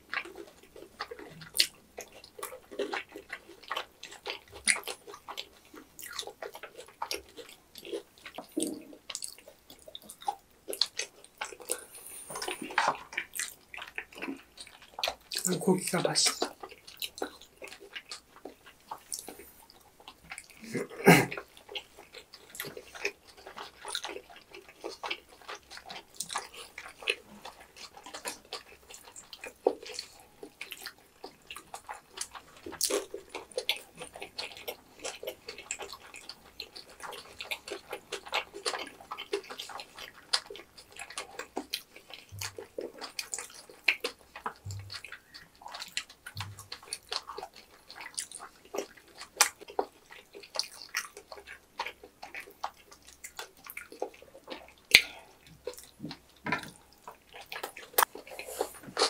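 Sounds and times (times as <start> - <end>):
chewing food in sauce: 0.0 - 59.0
mouth clicks and smacks: 0.0 - 59.0.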